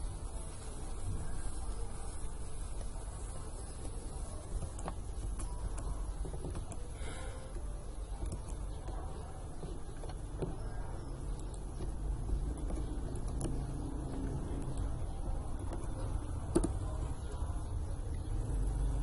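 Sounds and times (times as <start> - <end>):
low room rumble: 0.0 - 19.0.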